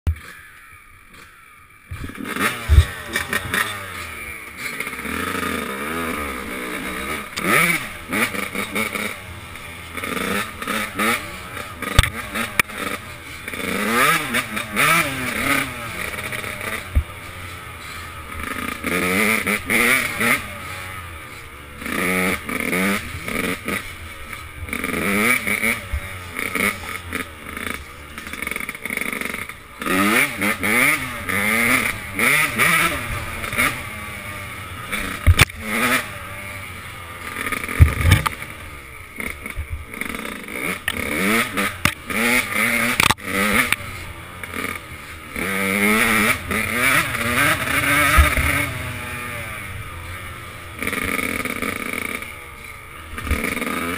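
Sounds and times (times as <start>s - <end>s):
dirt bike engine revving: 0.1s - 53.9s.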